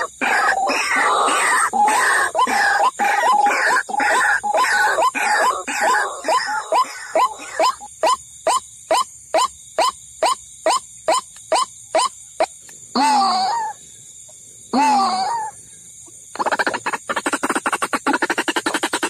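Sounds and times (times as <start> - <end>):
chorus of bird calls: 0.0 - 19.0.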